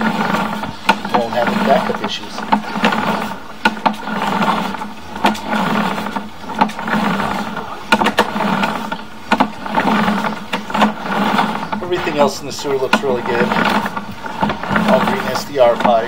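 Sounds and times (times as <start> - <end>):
push cable rushing noise: 0.0 - 16.0.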